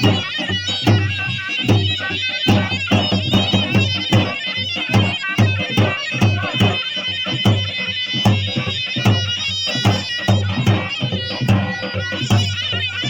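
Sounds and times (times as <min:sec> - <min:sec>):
shrill reedy shawm melody: 0:00.0 - 0:13.0.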